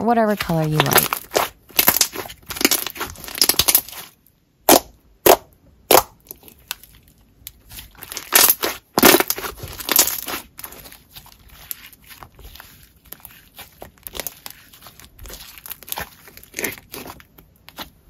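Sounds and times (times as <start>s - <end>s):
sticky crackling: 0.0s - 4.9s, 5.9s - 18.0s
slime squishing: 0.0s - 18.0s.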